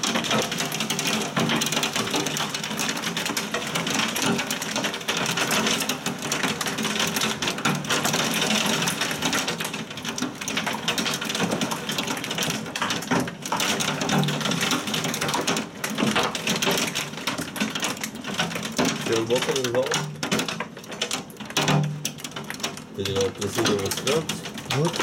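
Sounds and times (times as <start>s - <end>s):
heavy rain on hard surfaces: 0.0s - 25.0s.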